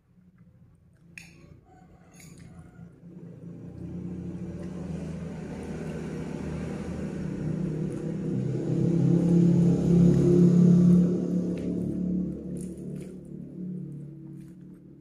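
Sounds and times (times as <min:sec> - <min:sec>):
vehicle engine approaching: 0:01.2 - 0:15.0.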